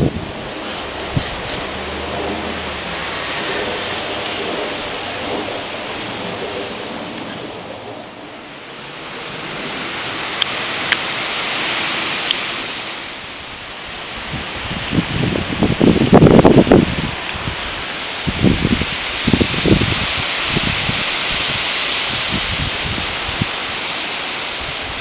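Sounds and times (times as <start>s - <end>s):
wind rustling trees: 0.0s - 25.0s.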